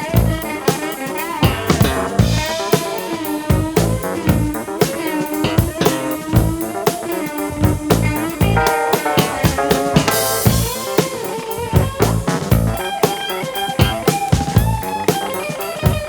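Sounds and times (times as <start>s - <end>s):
blues-rock music from vinyl: 0.0s - 16.0s.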